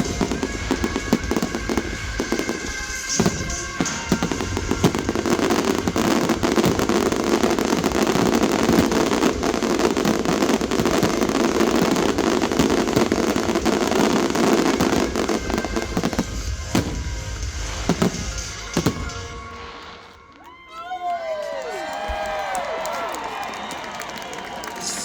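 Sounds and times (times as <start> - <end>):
fireworks crackling and banging: 0.0 - 20.6, 23.7 - 25.0.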